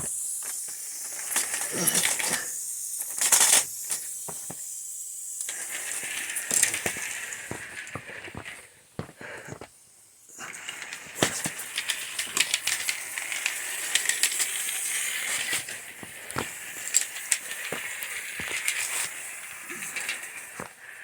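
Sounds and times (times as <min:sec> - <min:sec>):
toy locomotive clicking and rattling: 0:00.0 - 0:08.8, 0:10.3 - 0:21.0
steam hissing: 0:00.0 - 0:21.0.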